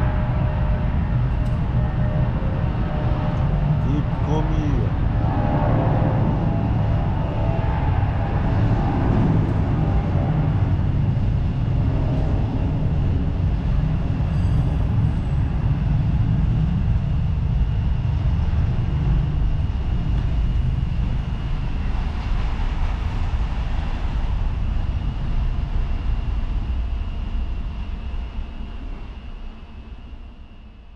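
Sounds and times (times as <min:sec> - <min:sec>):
airliner engines running: 0:00.0 - 0:30.9.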